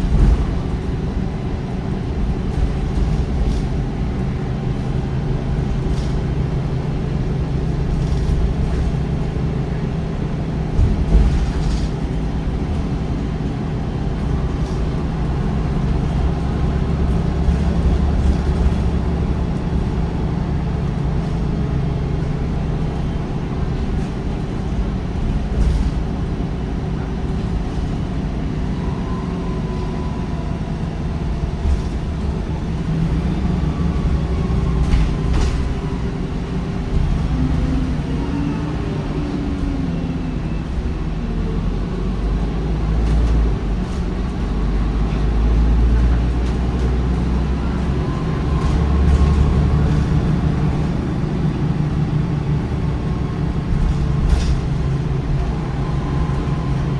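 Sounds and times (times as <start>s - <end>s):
diesel bus engine droning: 0.0s - 56.9s.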